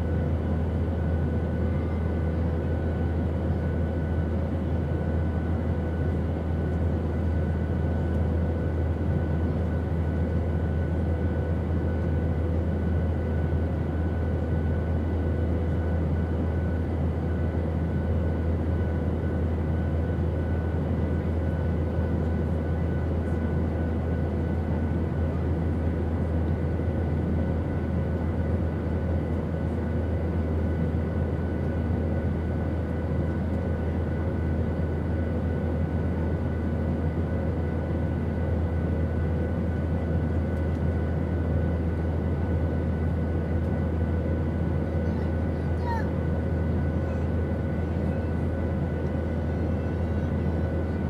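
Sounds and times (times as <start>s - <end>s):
airplane drone in flight: 0.0s - 51.0s.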